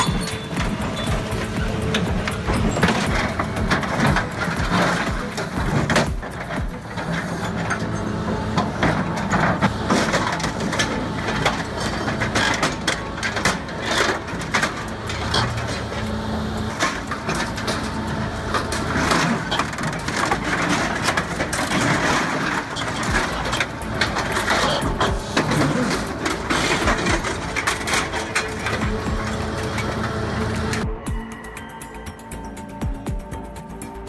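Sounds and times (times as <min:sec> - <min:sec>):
heavy machine engine running: 0:00.0 - 0:34.0.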